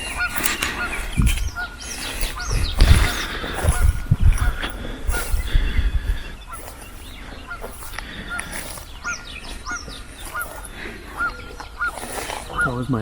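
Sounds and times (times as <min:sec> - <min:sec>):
low thumps: 0:00.0 - 0:12.0
short hooked bird calls: 0:00.0 - 0:12.9
higher arching bird calls: 0:00.0 - 0:13.0.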